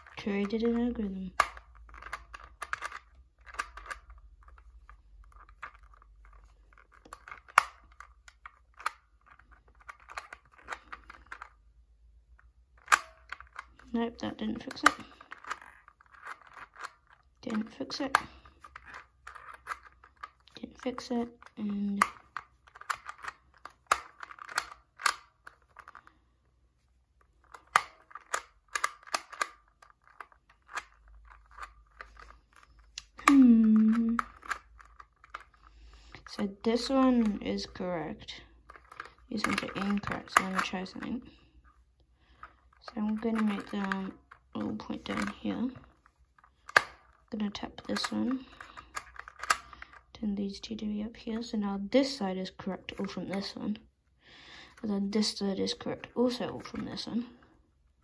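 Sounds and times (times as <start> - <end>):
small plastic clicks and rattles: 0.0 - 11.7, 12.3 - 26.2, 27.2 - 53.8.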